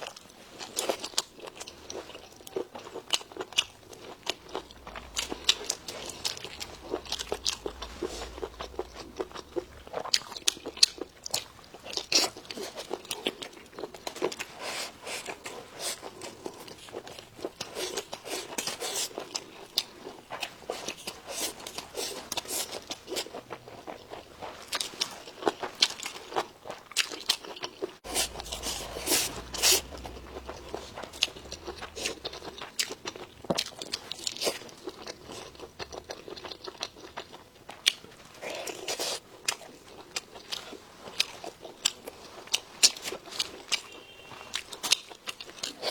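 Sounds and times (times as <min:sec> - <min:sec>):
crunchy chewing and biting: 0:00.0 - 0:45.9.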